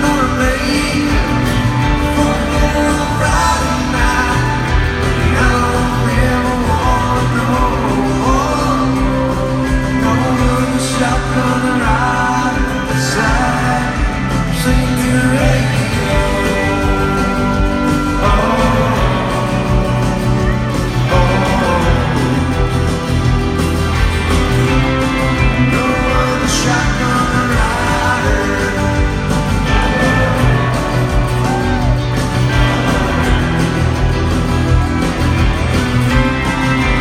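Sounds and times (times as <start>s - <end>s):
live country rock band: 0.0s - 37.0s
person singing: 0.0s - 37.0s.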